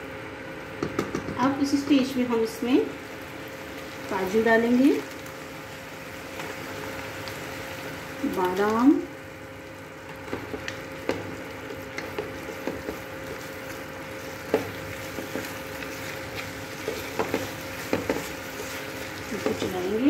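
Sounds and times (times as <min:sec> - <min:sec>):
halwa sizzling in ghee: 0:01.0 - 0:20.0.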